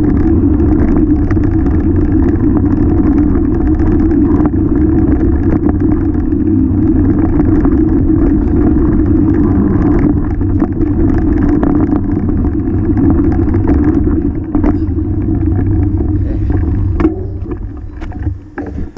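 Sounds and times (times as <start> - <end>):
bike knocks and rattles: 0.0 - 18.9
bike tyres rumbling on dirt: 0.0 - 18.9
wind on microphone: 0.0 - 18.9.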